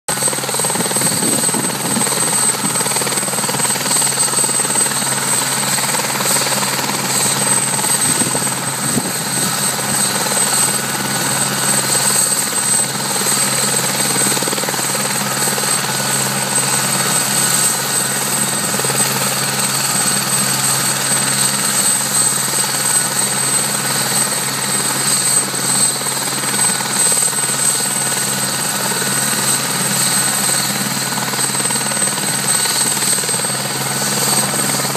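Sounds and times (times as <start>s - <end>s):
helicopter rotor and engine: 0.1s - 34.9s.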